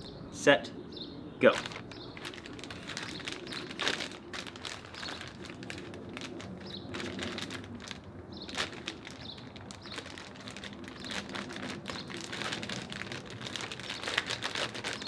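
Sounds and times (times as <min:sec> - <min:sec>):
plastic bag crinkling: 0:01.5 - 0:15.0.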